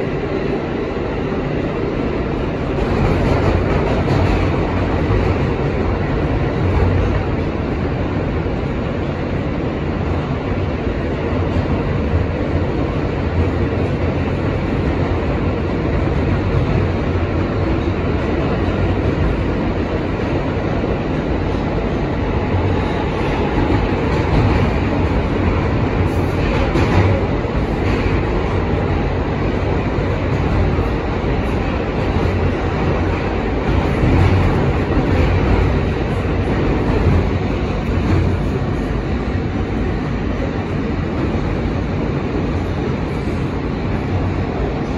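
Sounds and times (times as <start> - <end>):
subway wheels on rails: 0.0 - 44.9.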